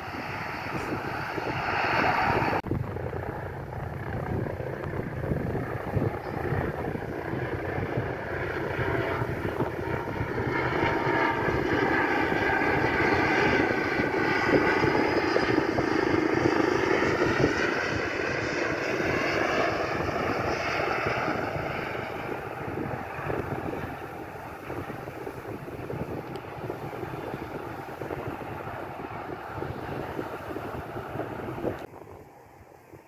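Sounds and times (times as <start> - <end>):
airplane flying past: 0.0 - 33.0.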